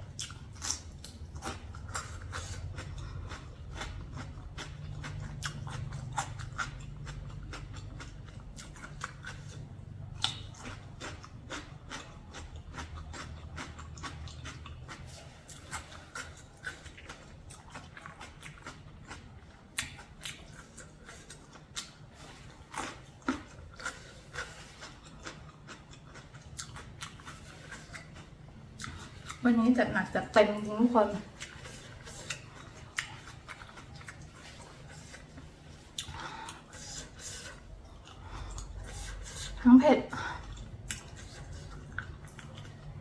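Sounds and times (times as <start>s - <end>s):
person chewing and crunching food: 0.0s - 43.0s.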